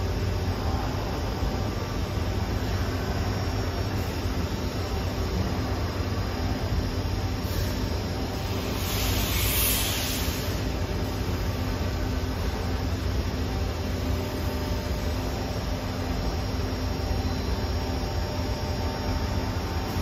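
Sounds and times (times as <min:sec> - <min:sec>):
machinery hum and rumble: 0:00.0 - 0:20.0.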